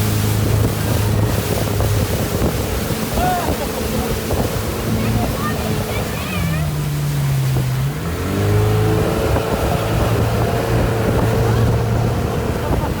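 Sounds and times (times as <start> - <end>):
motorboat engine running: 0.0 - 13.0
wind and water rushing: 0.0 - 13.0.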